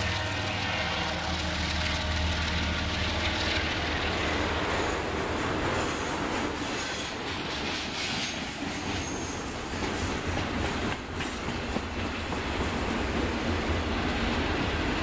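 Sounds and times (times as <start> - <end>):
train wheels running on rail: 0.0 - 15.0.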